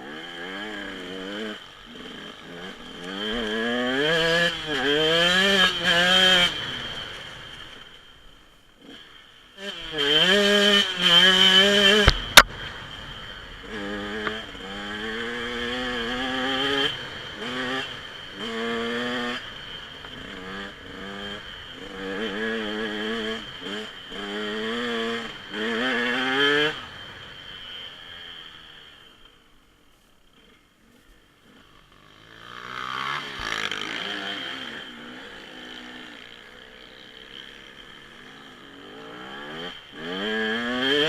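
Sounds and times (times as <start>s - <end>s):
dirt bike engine revving: 0.0s - 8.1s, 8.8s - 29.3s, 30.3s - 41.0s.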